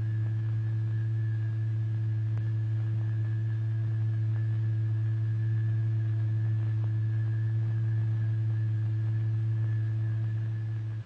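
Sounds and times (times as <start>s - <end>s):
steady low sine tone: 0.0s - 11.0s.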